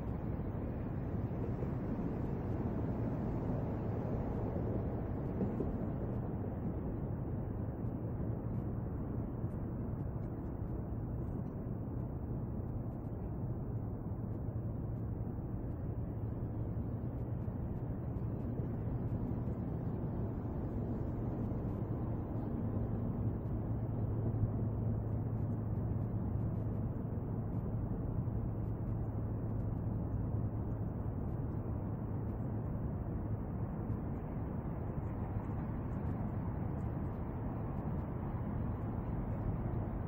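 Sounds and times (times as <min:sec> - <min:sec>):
faint low hum: 0:00.0 - 0:40.0
low rumbling background noise: 0:00.0 - 0:40.0.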